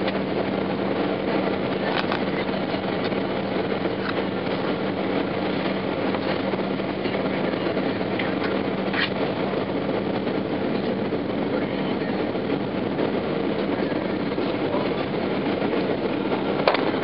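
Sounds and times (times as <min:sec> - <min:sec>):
airplane cabin engine and airflow noise: 0:00.0 - 0:17.0.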